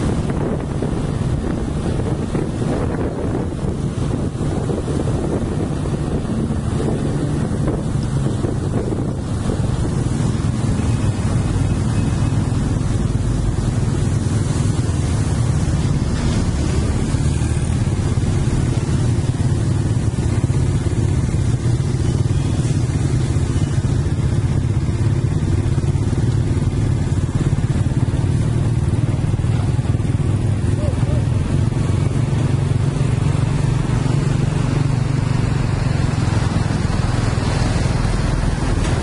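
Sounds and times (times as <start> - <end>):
road noise: 0.0 - 39.0
vehicle engine rumble: 0.0 - 39.0.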